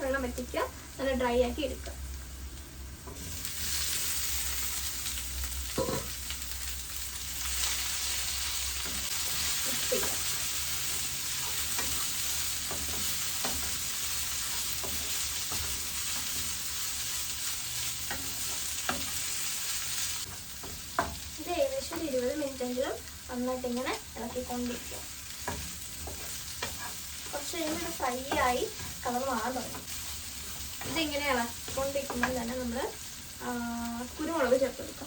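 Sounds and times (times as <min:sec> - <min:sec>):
meat sizzling in hot oil: 0:00.0 - 0:35.0.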